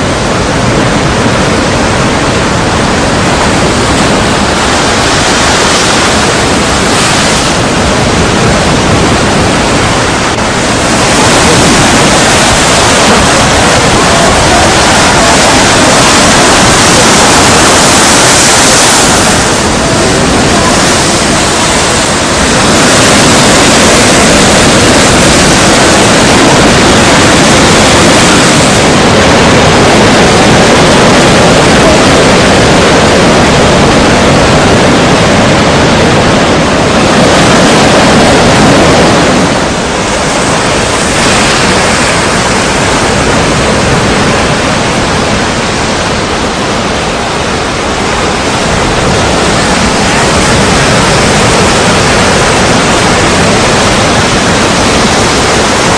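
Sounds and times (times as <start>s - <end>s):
strong wind: 0.0s - 55.9s
surf: 0.0s - 55.9s.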